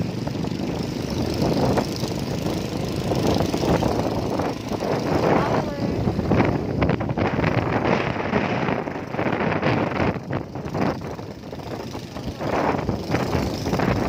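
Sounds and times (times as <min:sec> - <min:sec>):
vehicle engine running: 0:00.0 - 0:14.0
wind buffeting microphone: 0:00.0 - 0:14.0.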